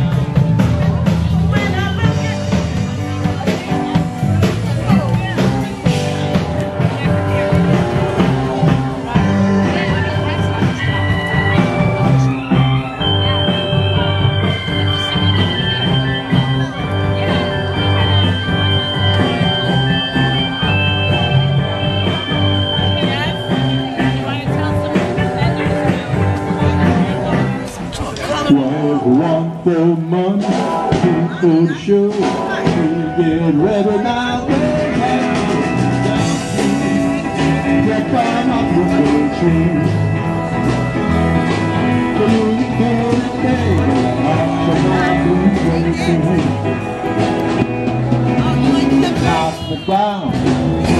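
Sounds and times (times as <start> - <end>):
drum beat: 0.0 - 28.1, 30.2 - 50.9
blues band playing live: 0.0 - 50.9
steady bass line: 0.0 - 50.9.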